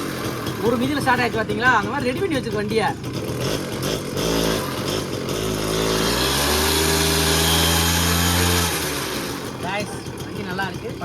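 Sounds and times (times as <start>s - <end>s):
moped engine revving: 0.0s - 11.0s.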